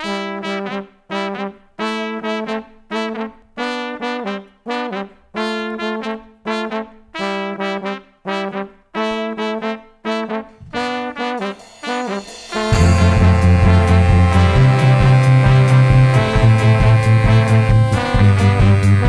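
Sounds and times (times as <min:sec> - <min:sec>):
brass horn section playing riff: 0:00.0 - 0:19.0.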